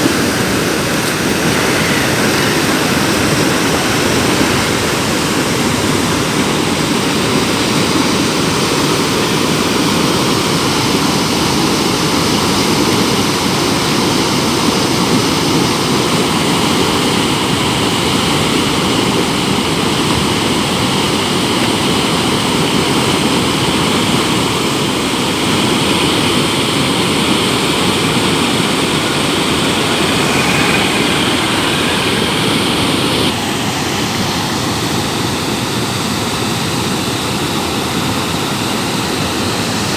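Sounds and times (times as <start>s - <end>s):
river water rushing loudly: 0.0s - 39.9s.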